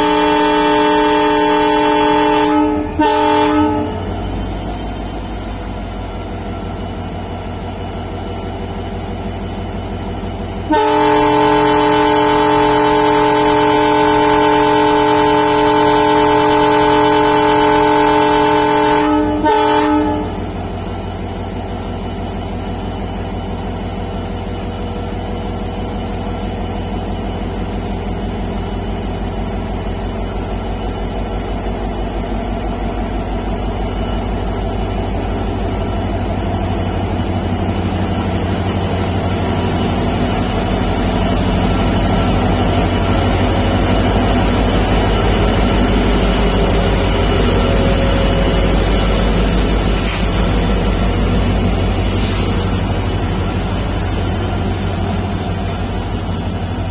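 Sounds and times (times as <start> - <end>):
locomotive diesel engine humming: 0.0 - 56.9.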